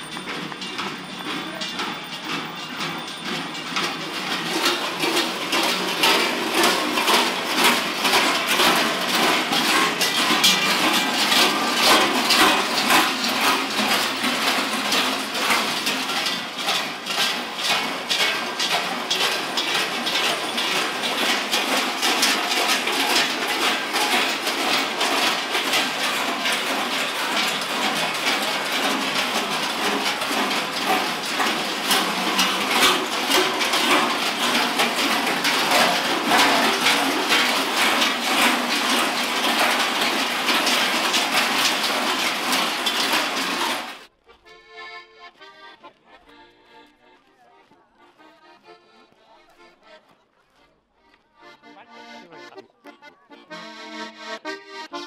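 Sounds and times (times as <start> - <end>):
large bells clanging: 0.0 - 44.1.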